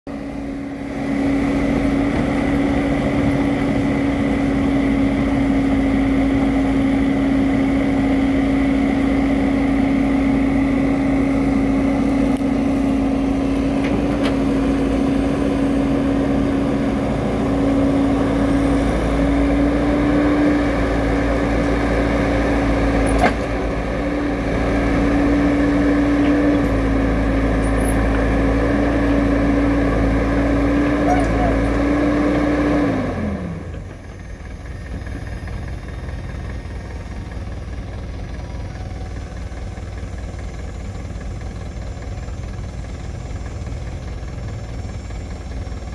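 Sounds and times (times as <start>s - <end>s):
excavator engine and hydraulics: 0.1s - 45.9s.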